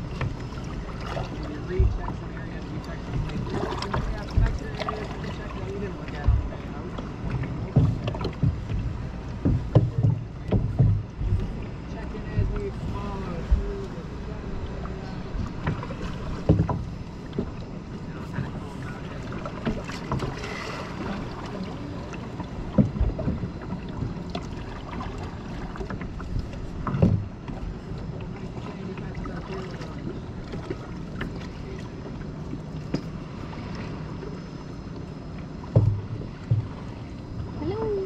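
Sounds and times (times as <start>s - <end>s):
paddle strokes: 0.0s - 38.0s
water moving against hull: 0.0s - 38.0s.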